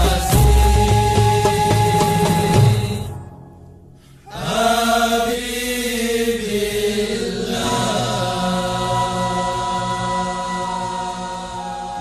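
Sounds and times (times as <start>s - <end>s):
devotional chanted singing: 0.0s - 3.4s, 4.2s - 12.0s.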